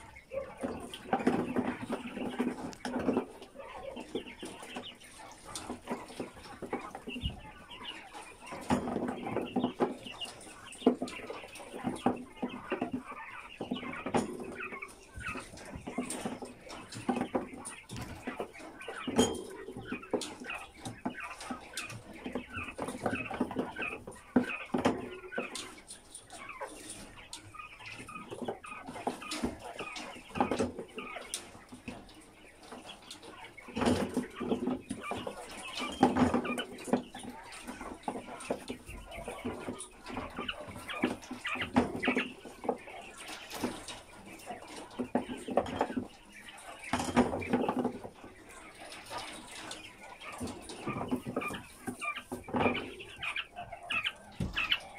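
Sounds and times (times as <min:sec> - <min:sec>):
quail chattering and cheeping: 0:00.0 - 0:54.9.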